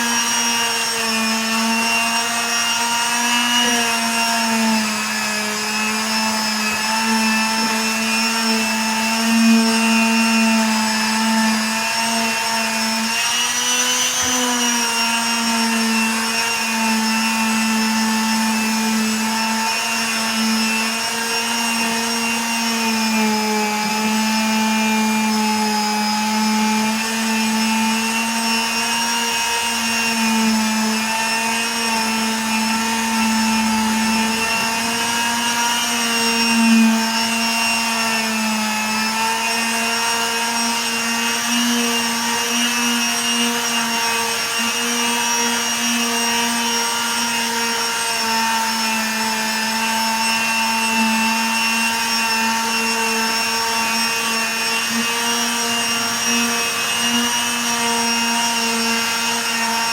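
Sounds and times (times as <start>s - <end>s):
small electric motor humming: 0.0s - 59.9s.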